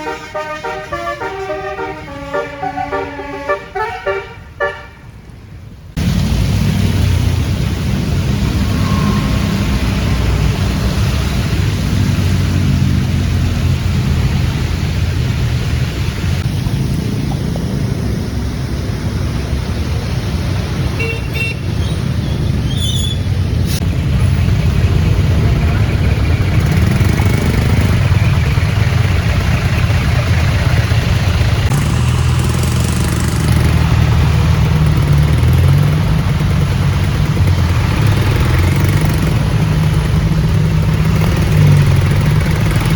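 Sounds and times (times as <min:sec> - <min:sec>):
vehicle engines droning: 0:00.0 - 0:42.9.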